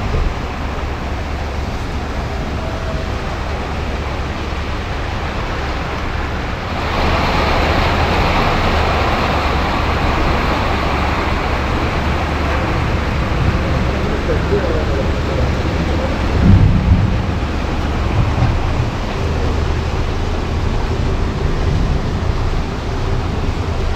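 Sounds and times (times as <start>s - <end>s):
heavy rain pouring: 0.0s - 23.9s
low rumble: 0.0s - 23.9s.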